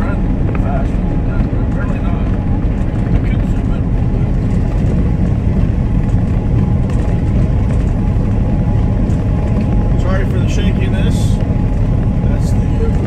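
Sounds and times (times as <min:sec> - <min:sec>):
vehicle road rumble: 0:00.0 - 0:13.0.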